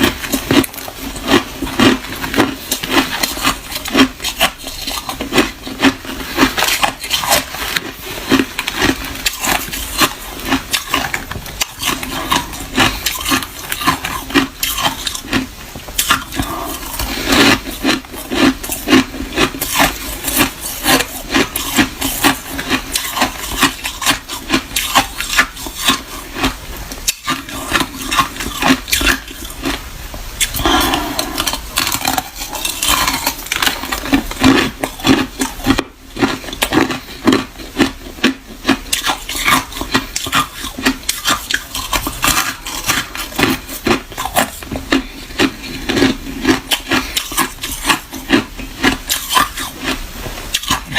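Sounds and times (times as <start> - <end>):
person chewing ice: 0.0 - 50.9.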